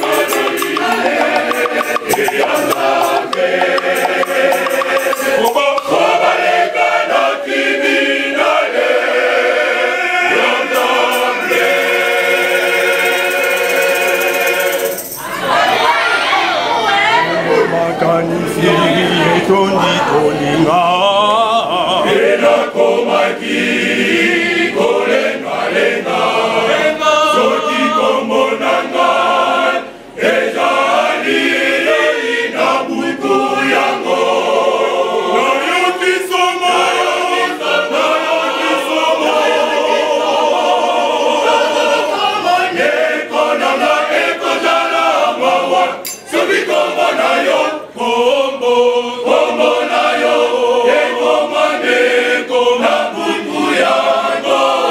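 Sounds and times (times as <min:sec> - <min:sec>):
choir singing: 0:00.0 - 0:17.7, 0:18.4 - 0:54.9.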